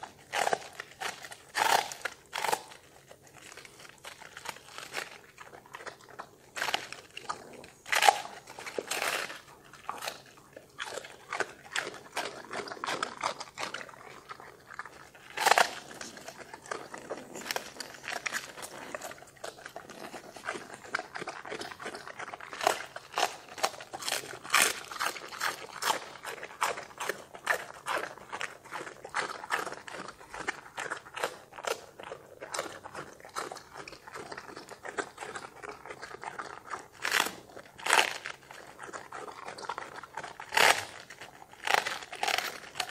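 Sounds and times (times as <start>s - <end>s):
dog chewing vegetables: 0.0s - 42.9s.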